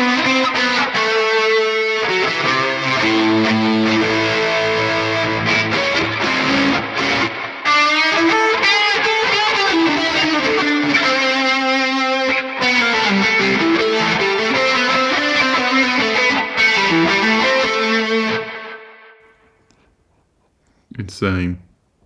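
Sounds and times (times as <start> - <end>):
distorted electric guitar lead: 0.0 - 18.7.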